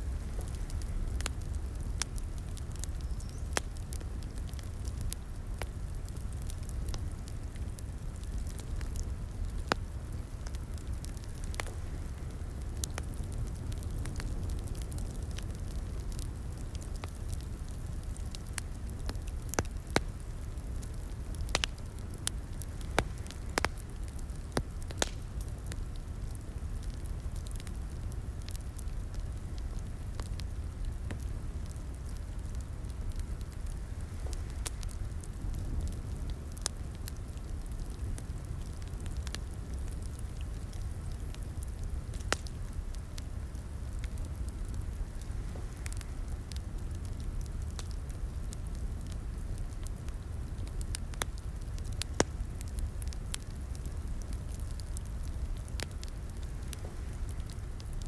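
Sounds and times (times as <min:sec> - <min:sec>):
fire popping and snapping: 0:00.0 - 0:58.0
flames rumbling: 0:00.0 - 0:58.0.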